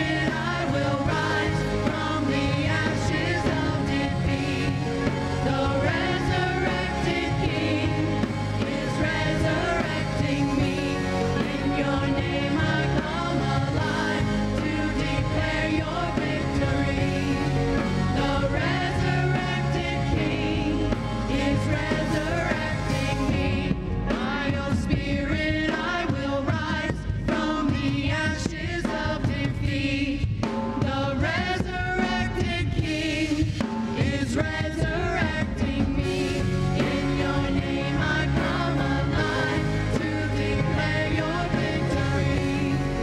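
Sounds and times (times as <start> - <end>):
drum kit: 0.0 - 43.0
people singing: 0.0 - 43.0.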